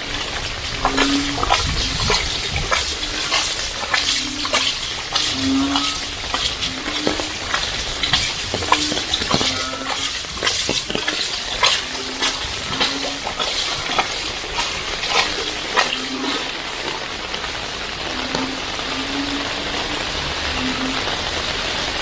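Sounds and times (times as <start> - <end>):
drips and splashes: 0.0 - 22.0
heavy rain falling: 0.0 - 22.0.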